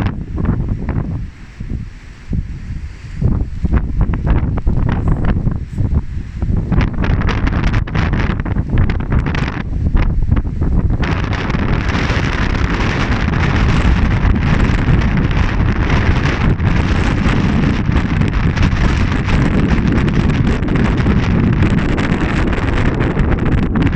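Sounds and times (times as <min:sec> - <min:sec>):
strong wind on microphone: 0:00.0 - 0:23.9.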